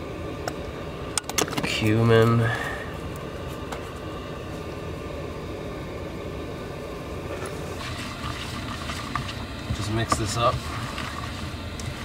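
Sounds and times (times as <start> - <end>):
air heater fan whir and rumble: 0.0 - 12.0.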